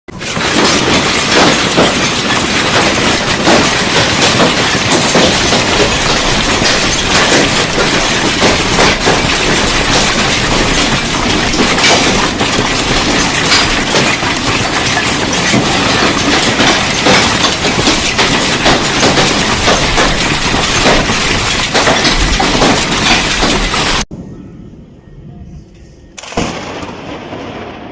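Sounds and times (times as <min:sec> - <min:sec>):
hail pelting hard surfaces: 0:00.2 - 0:24.1.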